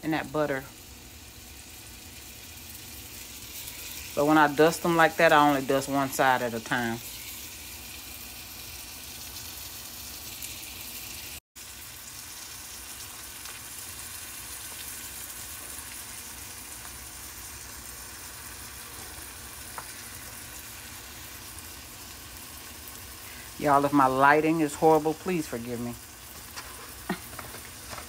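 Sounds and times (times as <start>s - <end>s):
chicken sizzling in butter: 0.0s - 28.0s.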